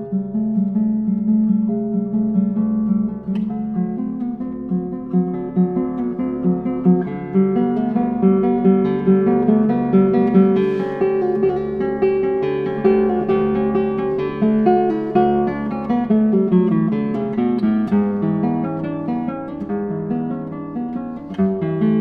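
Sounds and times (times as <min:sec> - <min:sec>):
classical guitar fingerstyle: 0:00.0 - 0:22.0.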